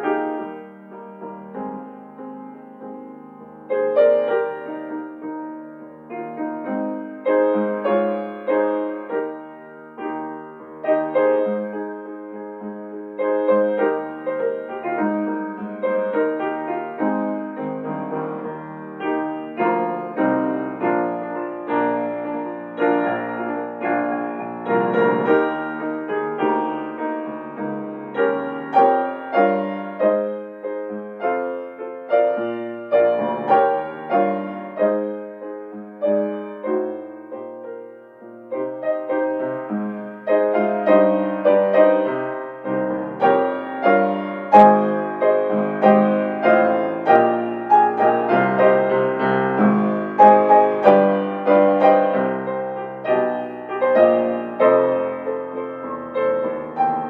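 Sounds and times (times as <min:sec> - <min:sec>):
calm piano piece: 0:00.0 - 0:57.0.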